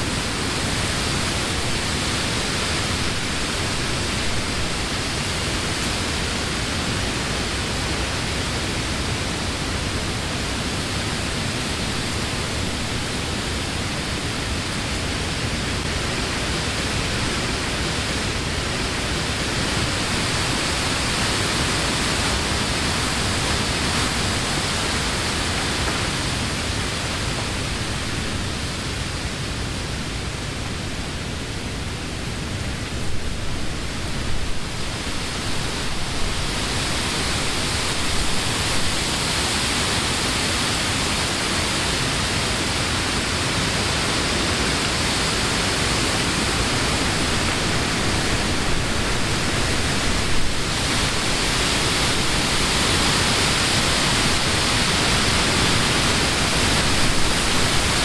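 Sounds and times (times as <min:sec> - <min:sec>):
wind through tree leaves: 0:00.0 - 0:58.0.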